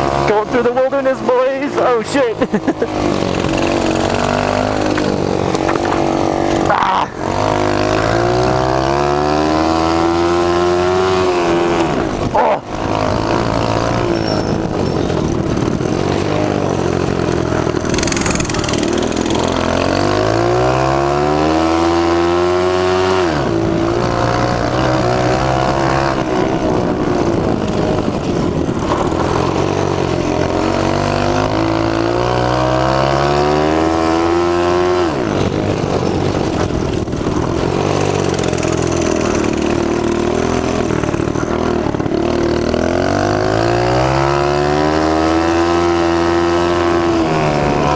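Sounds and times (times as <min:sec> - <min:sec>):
mini bike engine revving: 0:00.0 - 0:47.9.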